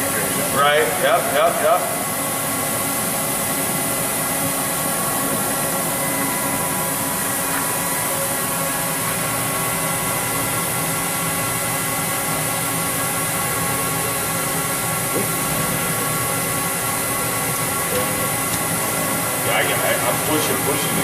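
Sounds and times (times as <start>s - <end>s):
machinery hum with whining tones: 0.0s - 21.0s.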